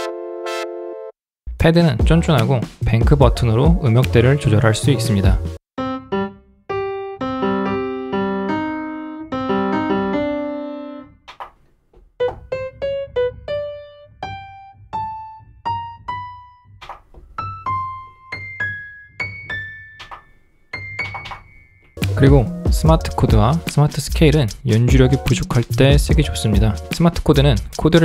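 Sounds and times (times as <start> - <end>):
piano chords and notes: 0.0 - 1.2, 2.0 - 11.5, 12.2 - 28.0.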